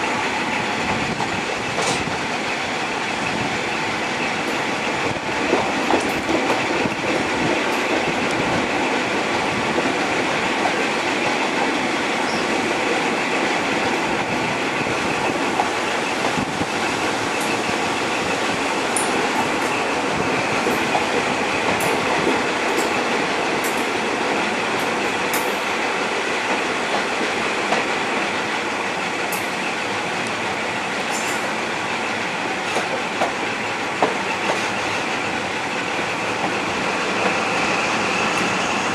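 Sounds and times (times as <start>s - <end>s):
train wind and wheel-on-rail noise: 0.0s - 38.9s.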